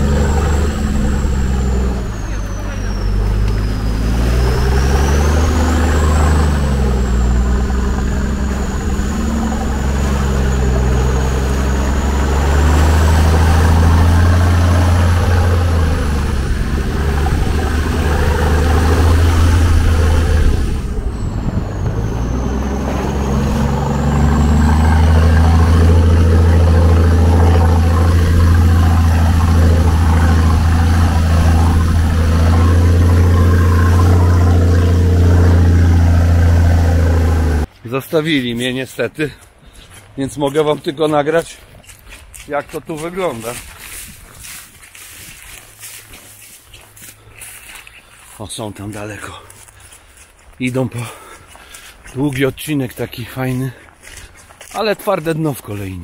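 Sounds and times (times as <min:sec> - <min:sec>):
vehicle engine at low revs: 0:00.0 - 0:37.8, 0:39.2 - 0:56.0.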